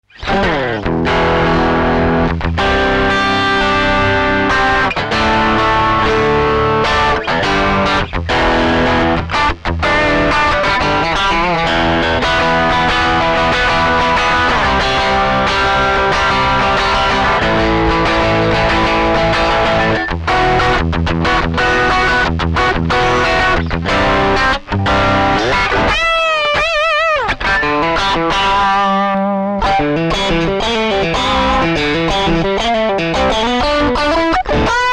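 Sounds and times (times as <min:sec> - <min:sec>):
distorted electric guitar riffing: 0:00.0 - 0:34.9.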